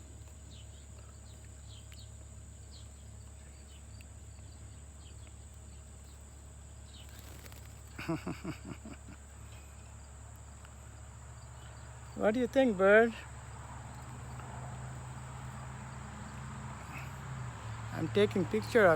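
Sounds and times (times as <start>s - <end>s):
high insect trill: 0.0s - 18.9s.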